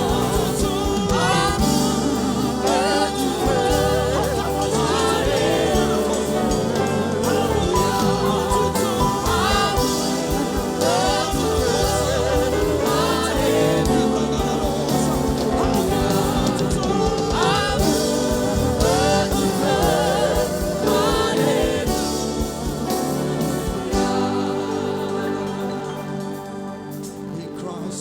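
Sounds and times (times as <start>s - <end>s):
band accompaniment: 0.0s - 28.0s
gospel singing: 0.0s - 28.0s.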